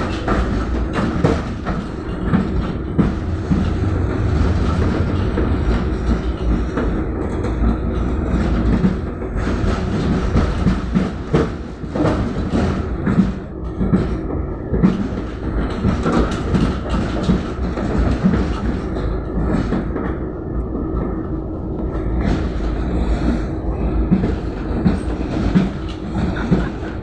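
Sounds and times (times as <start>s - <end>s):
tram rumbling on track: 0.0s - 27.0s.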